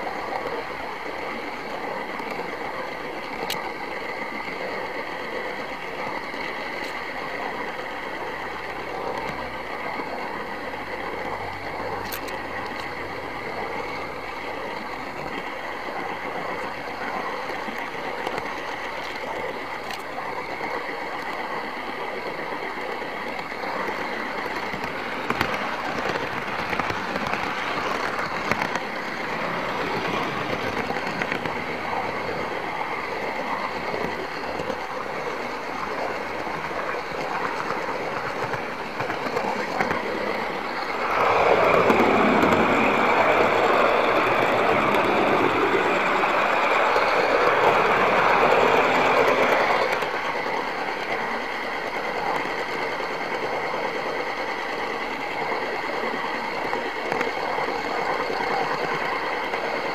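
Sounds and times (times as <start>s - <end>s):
model train motor whirring: 0.0s - 59.9s
wheels on rails: 0.0s - 59.9s.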